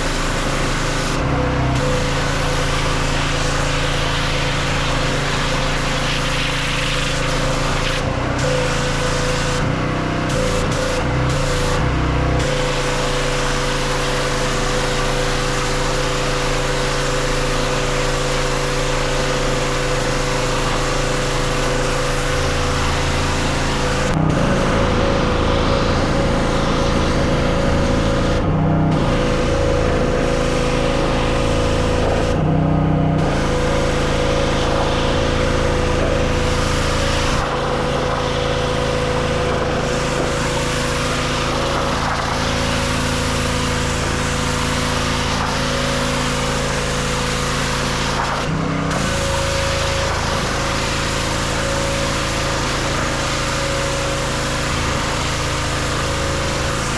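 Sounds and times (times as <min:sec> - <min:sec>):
water jet hissing on fence: 0:00.0 - 0:32.5, 0:33.1 - 0:56.9
pressure washer engine running: 0:00.0 - 0:56.9.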